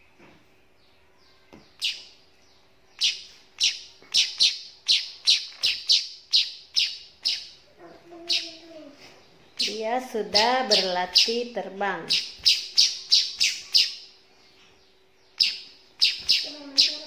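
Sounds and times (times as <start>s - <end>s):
fledgling bird chirping: 0.0s - 17.0s.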